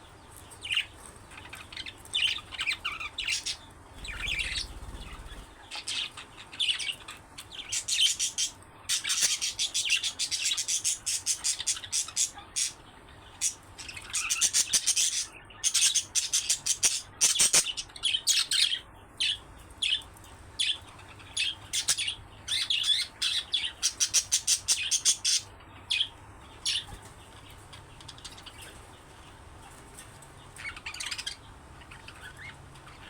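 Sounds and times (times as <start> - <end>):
budgerigars chirping: 0.6 - 29.0, 30.4 - 33.0.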